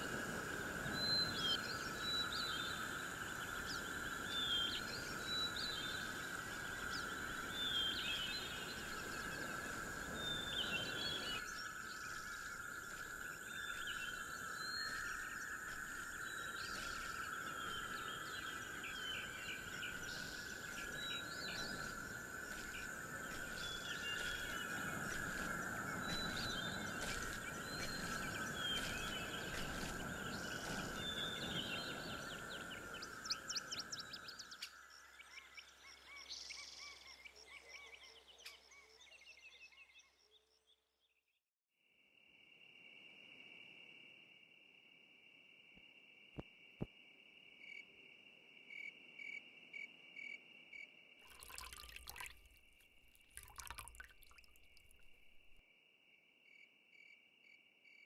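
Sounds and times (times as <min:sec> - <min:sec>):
crickets chirping at night: 0:00.0 - 0:40.7, 0:42.0 - 0:58.0
insect hum: 0:00.0 - 0:40.7, 0:42.0 - 0:58.0.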